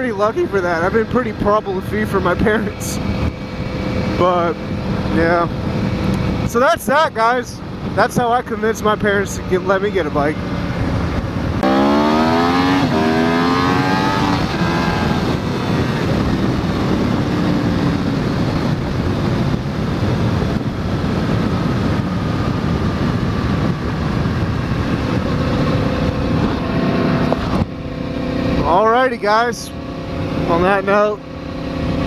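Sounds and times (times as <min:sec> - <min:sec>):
motorcycle engine accelerating: 0:00.0 - 0:06.6, 0:07.6 - 0:32.0
wind noise on microphone: 0:00.0 - 0:32.0.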